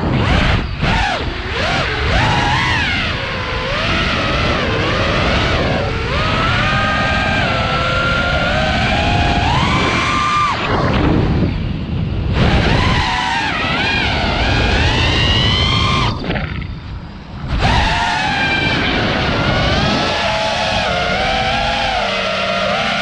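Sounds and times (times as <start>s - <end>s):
low rushing noise: 0.0s - 22.8s
drone motors whining: 0.0s - 23.0s.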